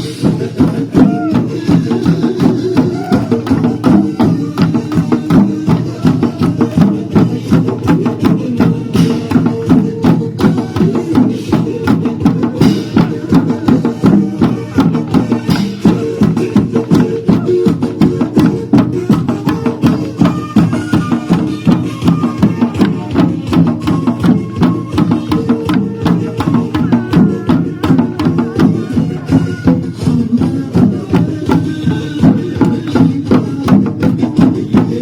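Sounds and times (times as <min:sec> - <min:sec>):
lively dance music: 0:00.0 - 0:35.0.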